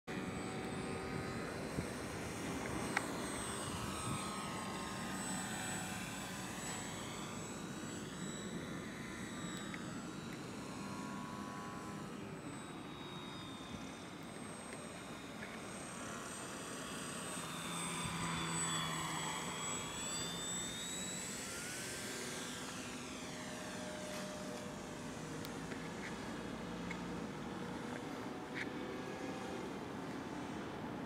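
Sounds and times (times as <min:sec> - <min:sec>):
model plane motor whine: 0:00.1 - 0:31.0.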